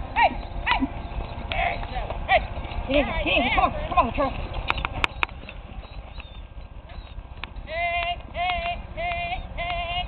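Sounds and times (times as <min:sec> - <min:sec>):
horse hooves clip-clopping on dirt: 0:00.0 - 0:10.0.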